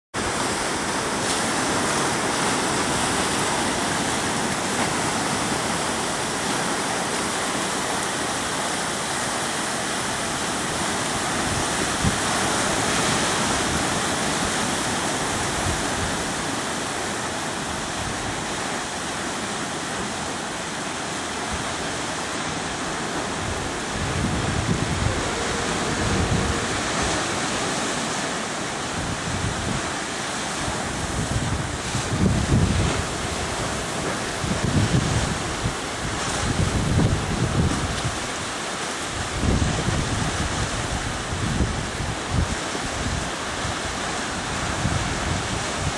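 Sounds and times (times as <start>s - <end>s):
wind buffeting microphone: 0.2s - 19.0s, 22.5s - 45.9s
ocean surf breaking: 0.2s - 45.9s.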